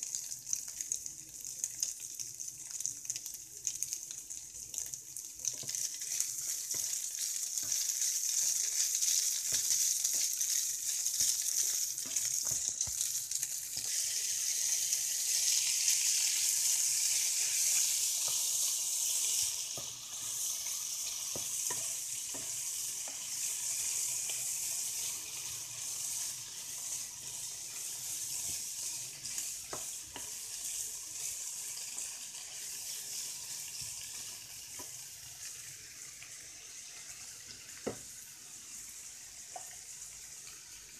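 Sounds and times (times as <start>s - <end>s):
food sizzling in oil: 0.0s - 40.9s.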